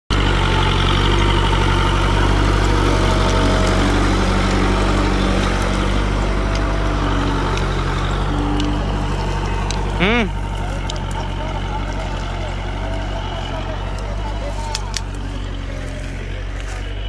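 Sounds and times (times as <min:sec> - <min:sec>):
tractor diesel engine running: 0:00.1 - 0:17.0.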